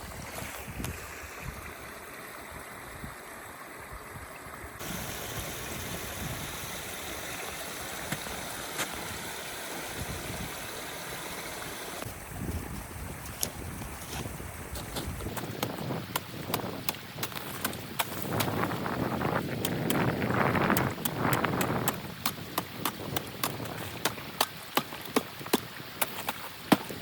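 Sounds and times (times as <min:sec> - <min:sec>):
wind on microphone: 0:00.0 - 0:01.8, 0:04.8 - 0:07.4, 0:08.2 - 0:11.2, 0:12.0 - 0:27.0
water rushing in channel: 0:00.0 - 0:27.0.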